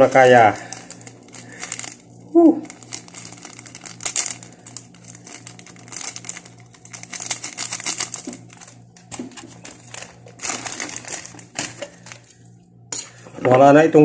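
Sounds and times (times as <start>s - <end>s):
objects clicking and crinkling: 0.0s - 12.3s
steady low hum: 0.0s - 14.0s.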